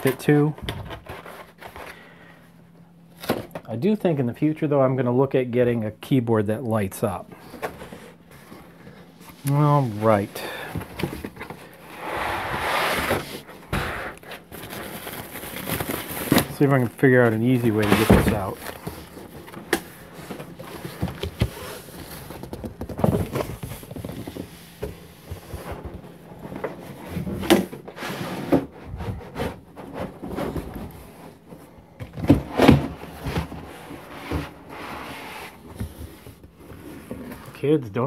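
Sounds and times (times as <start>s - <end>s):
cardboard scraping and rustling: 0.0s - 2.1s, 7.4s - 37.7s.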